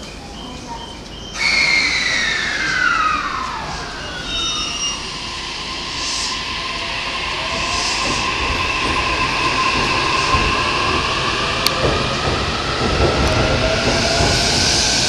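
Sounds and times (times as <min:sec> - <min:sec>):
train running noise: 0:00.0 - 0:15.0
electric train motors whining: 0:01.4 - 0:15.0.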